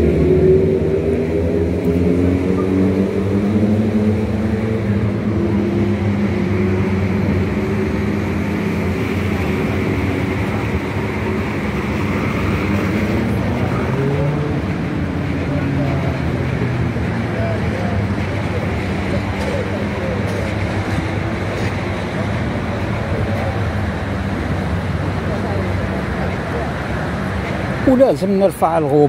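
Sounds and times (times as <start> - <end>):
traffic engines humming: 0.0 - 29.0.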